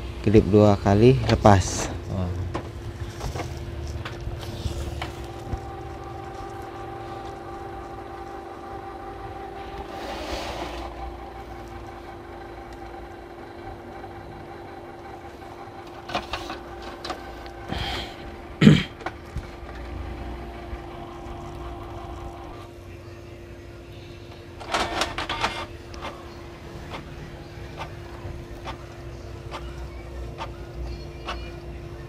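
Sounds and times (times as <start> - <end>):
printer motor whirring: 0.0 - 32.0.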